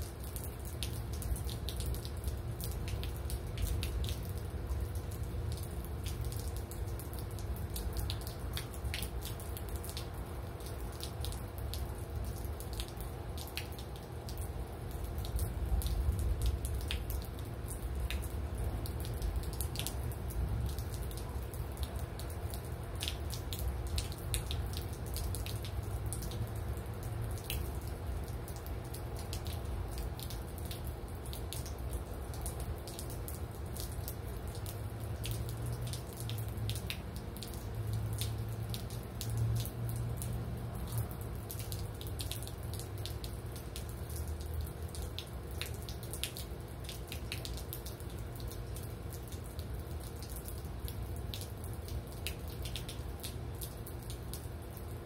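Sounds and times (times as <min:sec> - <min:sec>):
rain drops dripping: 0:00.0 - 0:55.0.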